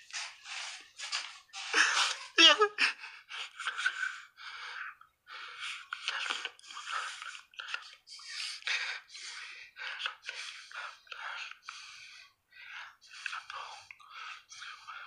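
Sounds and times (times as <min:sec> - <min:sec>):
breathy whispering voice: 0:01.7 - 0:15.0.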